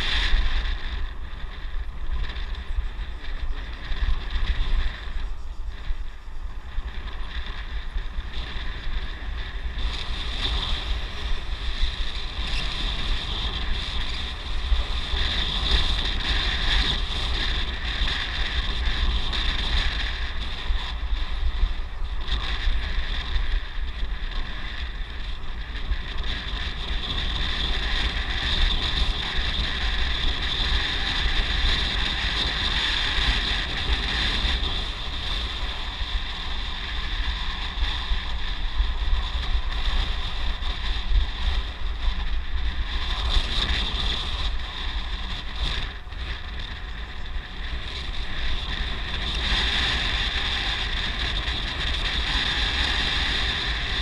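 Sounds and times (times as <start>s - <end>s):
high-pitched hum: 0.0s - 54.0s
wind buffeting microphone: 0.0s - 54.0s.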